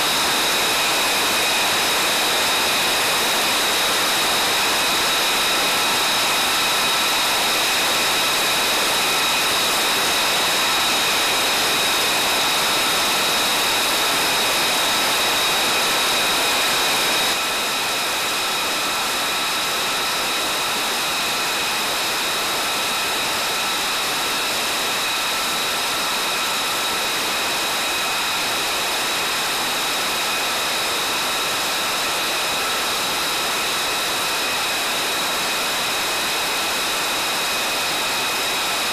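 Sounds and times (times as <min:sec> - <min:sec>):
jet engine rushing and whining: 0:00.0 - 0:38.9.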